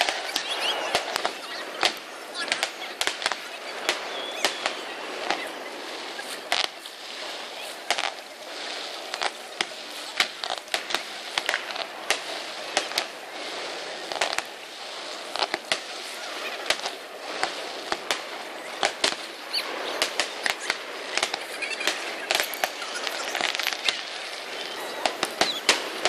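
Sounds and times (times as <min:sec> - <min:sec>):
fireworks bangs and crackles: 0:00.0 - 0:26.0
steady background hiss: 0:00.0 - 0:26.0.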